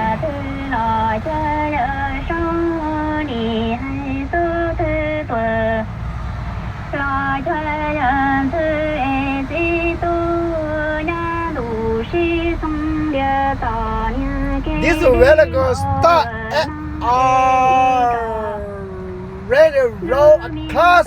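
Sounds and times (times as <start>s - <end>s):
truck driving rumble: 0.0s - 21.0s.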